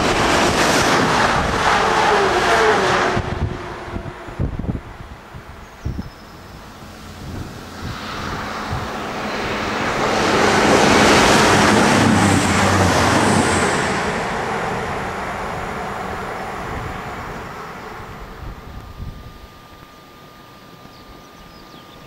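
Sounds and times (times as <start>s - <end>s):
train wheels rushing on rail: 0.0s - 18.6s
low engine hum: 0.0s - 22.0s.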